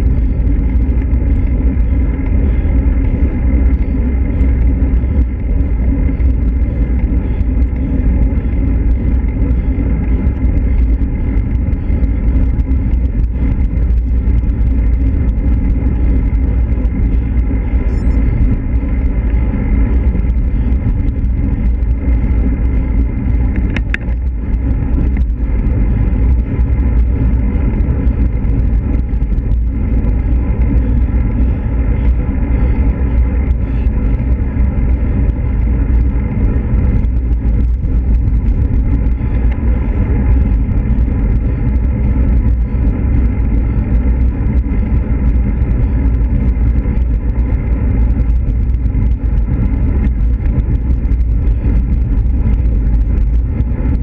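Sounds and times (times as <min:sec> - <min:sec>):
bike tyres on asphalt: 0:00.0 - 0:54.0
wind rumble on microphone: 0:00.0 - 0:54.0.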